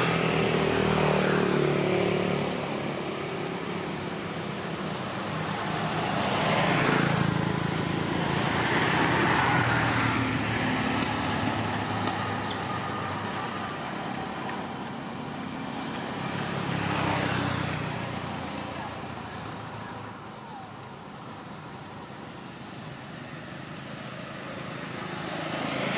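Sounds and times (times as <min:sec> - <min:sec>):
vehicle engines running: 0:00.0 - 0:25.9.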